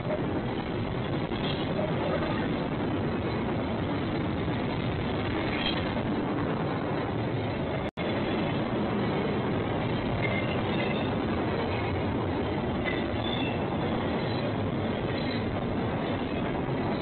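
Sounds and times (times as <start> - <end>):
freight train rolling on rails: 0.0 - 17.0.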